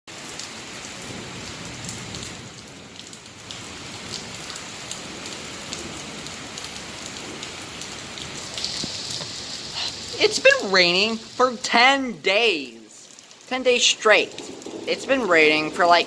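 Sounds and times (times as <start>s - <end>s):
steady rain falling: 0.1s - 16.0s.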